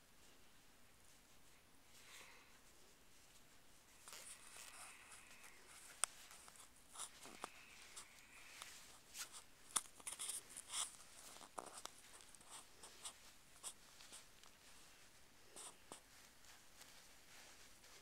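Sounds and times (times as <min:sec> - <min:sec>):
fabric rustling and scratching: 0:02.6 - 0:18.0.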